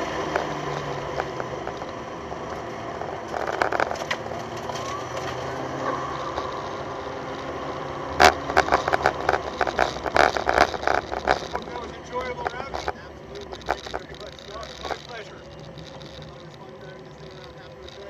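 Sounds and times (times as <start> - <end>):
car engine: 0.0 - 18.0
tyre noise: 0.0 - 18.0.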